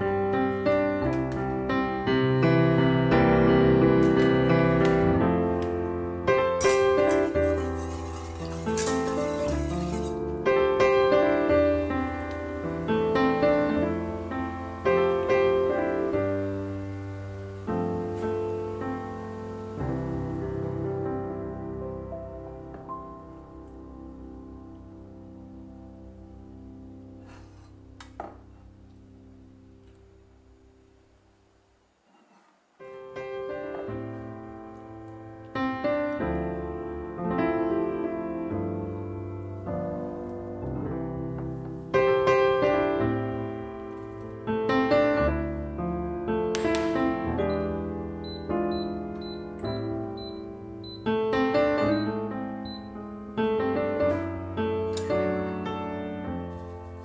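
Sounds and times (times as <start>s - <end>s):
gentle piano music: 0.0s - 31.2s, 32.8s - 57.0s.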